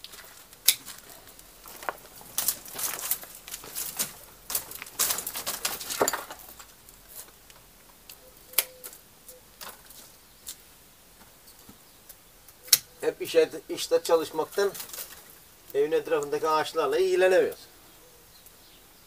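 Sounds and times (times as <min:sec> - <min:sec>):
dry twigs crackling and snapping: 0:00.0 - 0:13.0, 0:14.0 - 0:16.4.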